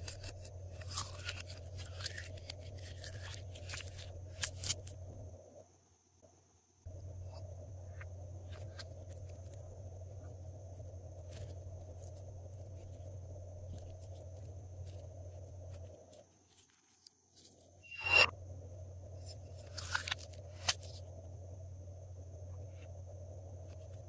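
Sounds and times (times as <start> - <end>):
low hum: 0.0 - 5.8, 6.8 - 16.2, 17.7 - 24.0.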